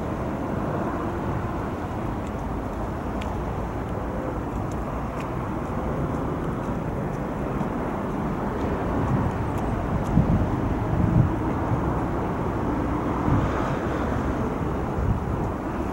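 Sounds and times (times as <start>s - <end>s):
wind buffeting microphone: 0.0s - 15.9s.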